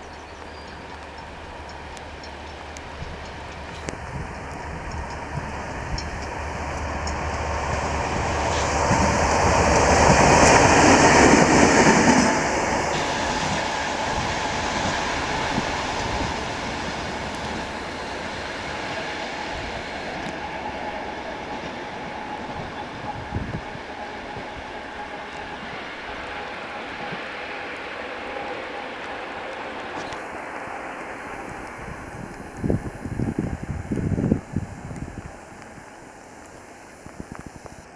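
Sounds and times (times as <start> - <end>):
diesel locomotive passing: 0.0 - 37.9.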